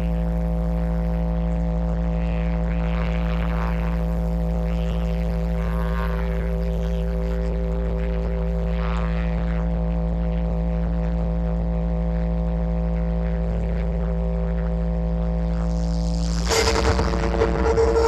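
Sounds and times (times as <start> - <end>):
deep bass drone: 0.0 - 18.0.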